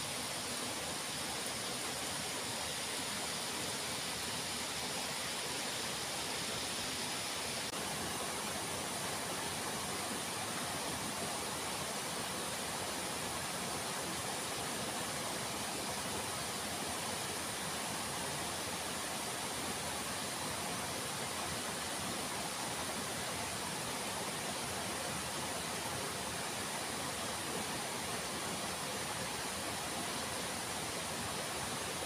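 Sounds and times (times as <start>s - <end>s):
flowing water rushing: 0.0s - 32.0s.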